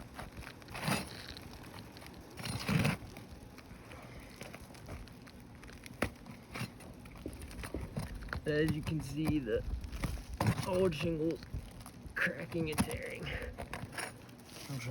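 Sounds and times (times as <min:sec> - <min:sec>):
shingle crackling: 0:00.0 - 0:14.9.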